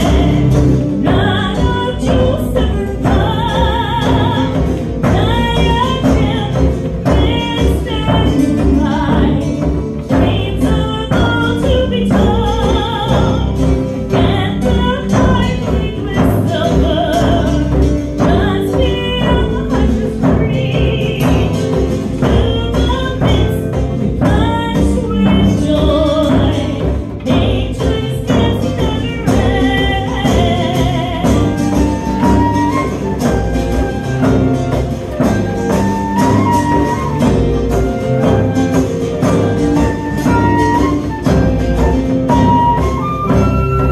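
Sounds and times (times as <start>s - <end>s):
strummed acoustic guitar: 0.0s - 43.9s
woman singing with vibrato: 0.0s - 43.9s.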